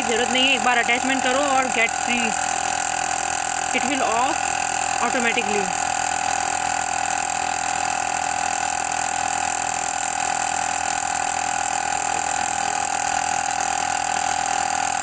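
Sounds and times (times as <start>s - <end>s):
portable air compressor droning: 0.0s - 15.0s.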